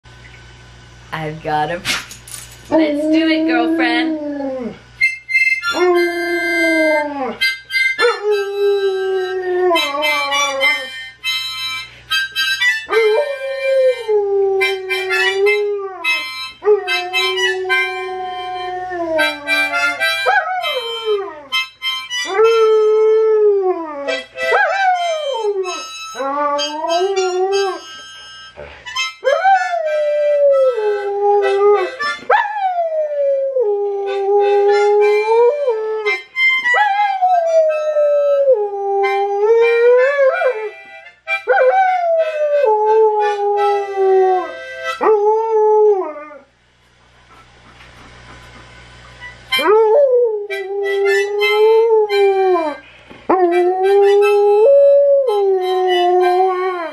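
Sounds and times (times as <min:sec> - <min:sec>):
harmonica notes and chords: 0:05.0 - 0:32.3, 0:34.0 - 0:45.6, 0:47.3 - 0:56.9.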